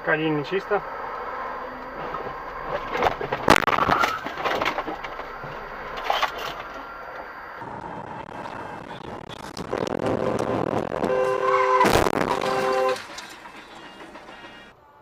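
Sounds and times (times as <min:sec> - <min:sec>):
traffic hum: 0:00.0 - 0:15.0
car crash: 0:01.9 - 0:14.8
knocks and crunching: 0:02.0 - 0:14.7.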